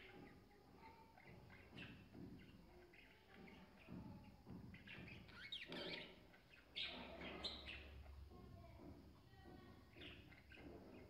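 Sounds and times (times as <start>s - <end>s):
faint budgerigar chirps: 0.0s - 8.3s, 9.9s - 11.0s.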